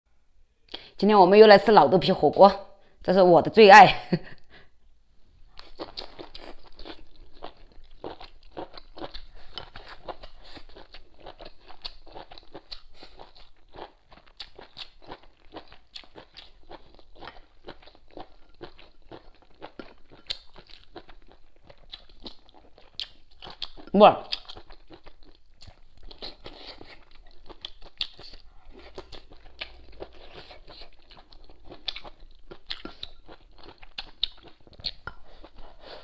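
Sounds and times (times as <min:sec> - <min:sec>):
person chewing food: 0:05.5 - 0:36.0.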